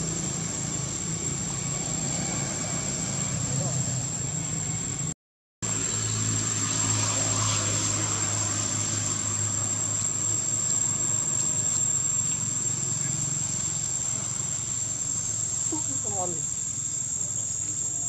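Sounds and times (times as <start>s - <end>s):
insect drone: 0.0s - 18.0s.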